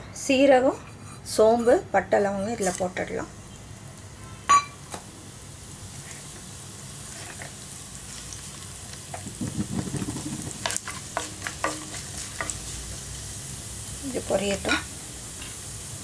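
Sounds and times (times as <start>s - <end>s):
spices sizzling in oil: 0.6s - 16.0s.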